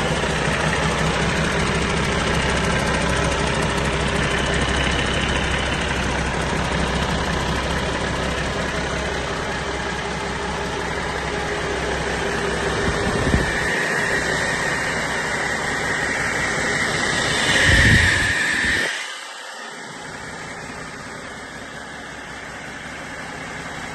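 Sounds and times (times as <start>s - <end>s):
diesel engine rumble: 0.0s - 23.9s
high whine: 0.0s - 23.9s.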